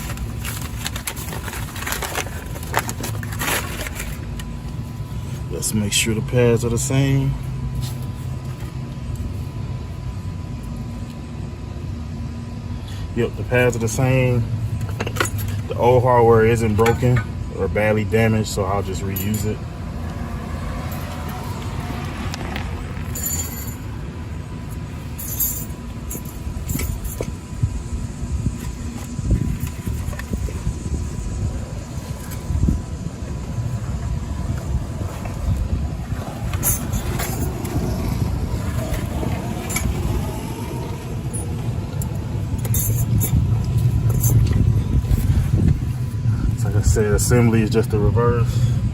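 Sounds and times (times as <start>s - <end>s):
low background rumble: 0.0s - 48.9s.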